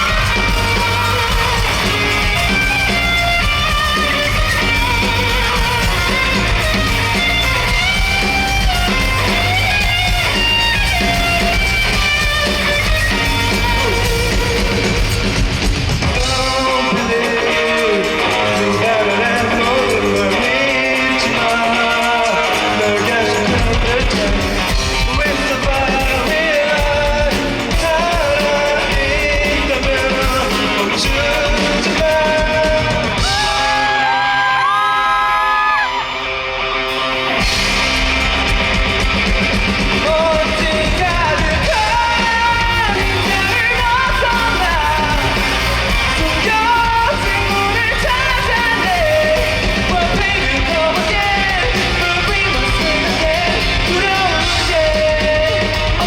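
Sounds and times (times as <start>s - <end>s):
lead vocal singing: 0.0s - 36.3s, 37.0s - 56.0s
bass guitar: 0.0s - 56.0s
drums: 0.0s - 56.0s
electric guitar: 0.0s - 56.0s.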